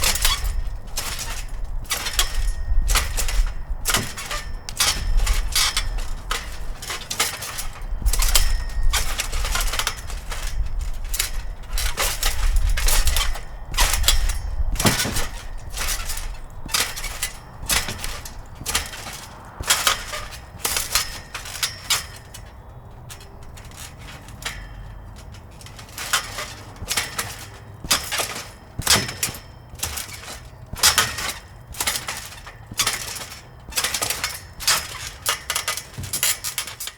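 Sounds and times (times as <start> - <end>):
trampoline springs creaking: 0.0 - 36.9.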